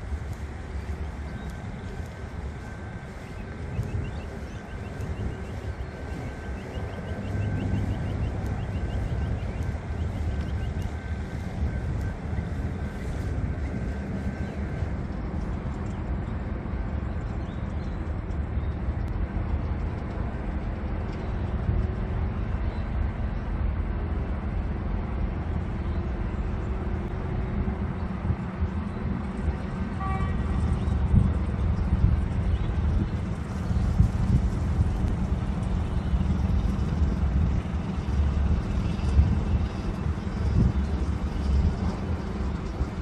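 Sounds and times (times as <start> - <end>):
distant road traffic rumble: 0.0 - 43.0
wind buffeting microphone: 0.0 - 43.0.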